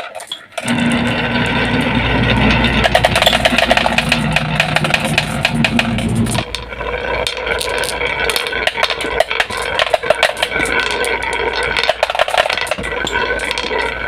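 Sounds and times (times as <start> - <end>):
marbles rolling and clattering: 0.0 - 14.0.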